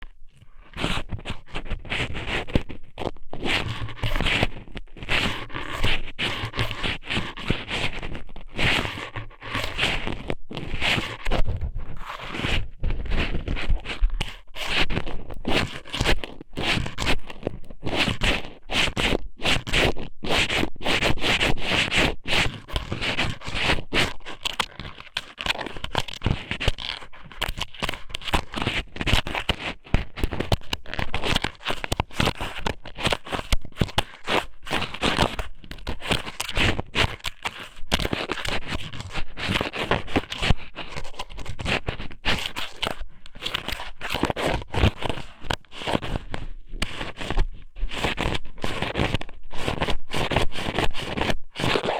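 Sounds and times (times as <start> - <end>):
squid scraping on microphone: 0.7 - 51.9.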